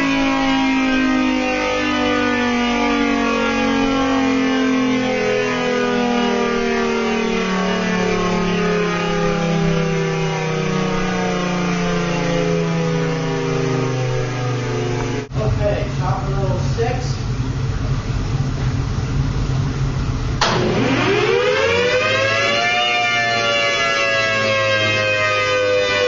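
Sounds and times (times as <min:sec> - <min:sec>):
tornado siren winding down: 0:00.0 - 0:15.3, 0:20.4 - 0:26.0.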